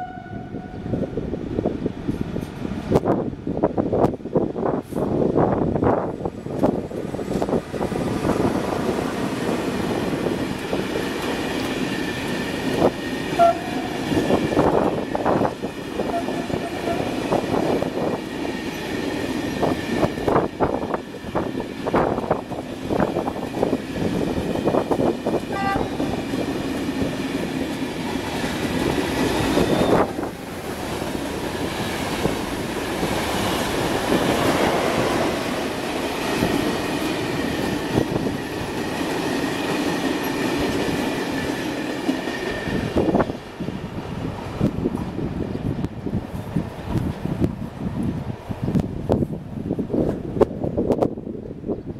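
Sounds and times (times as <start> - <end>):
train rolling rumble: 0.0 - 51.9.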